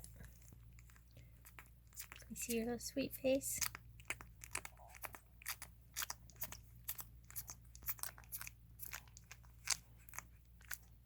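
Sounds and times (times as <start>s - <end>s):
puppies suckling wet clicks: 0.0s - 11.0s.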